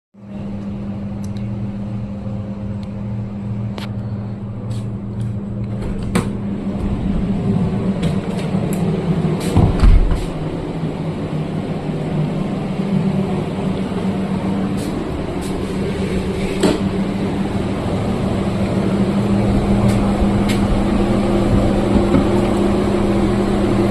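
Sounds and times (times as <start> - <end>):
refrigeration machinery hum: 0.2 - 23.9.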